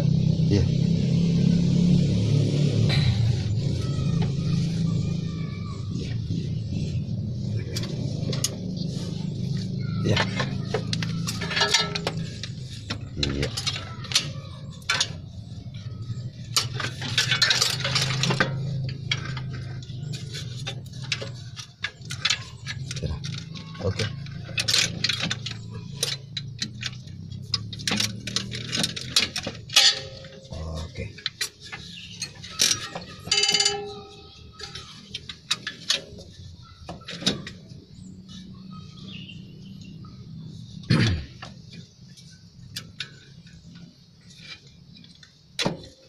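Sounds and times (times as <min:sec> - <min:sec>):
tools clinking on engine parts: 0:07.1 - 0:46.0.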